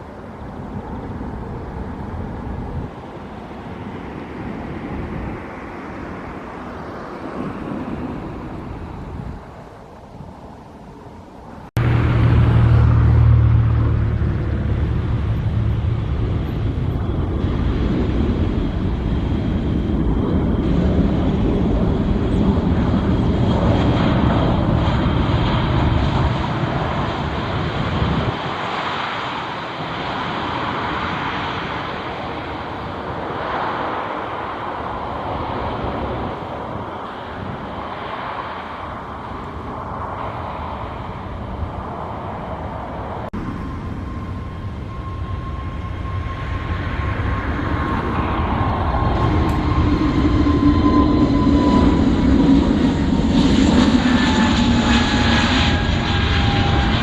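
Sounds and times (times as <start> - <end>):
deep jet rumble: 0.0 - 57.0
jet airliner engines roaring: 0.0 - 57.0.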